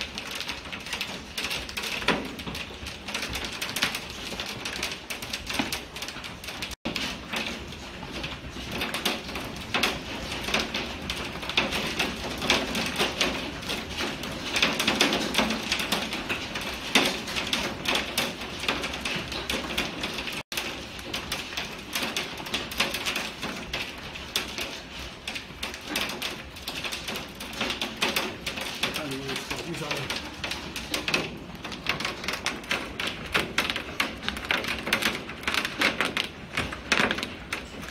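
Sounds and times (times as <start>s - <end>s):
hailstones pelting a window: 0.0s - 37.9s
hiss of falling hail and rain: 0.0s - 37.9s.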